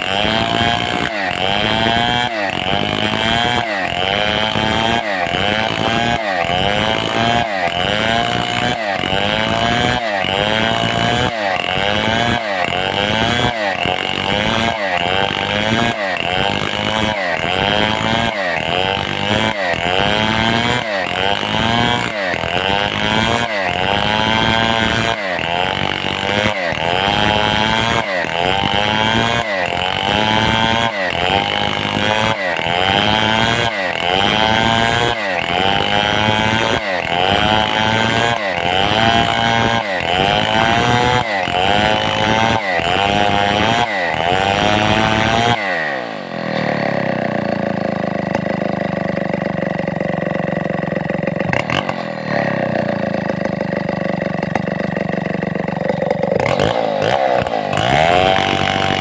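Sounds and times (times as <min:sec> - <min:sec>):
chainsaw running hard: 0:00.0 - 0:59.0.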